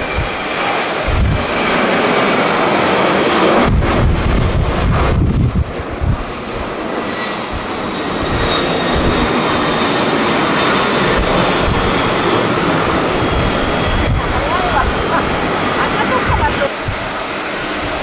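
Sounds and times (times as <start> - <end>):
jet airliner engines: 0.0 - 18.0
wind buffeting microphone: 0.0 - 18.0.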